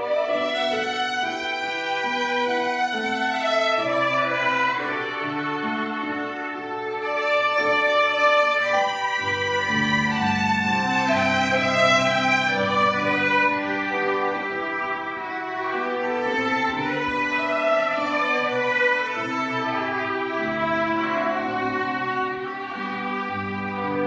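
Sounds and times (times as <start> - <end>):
low bowed string notes: 0.0 - 24.0
violin melody: 0.0 - 24.0.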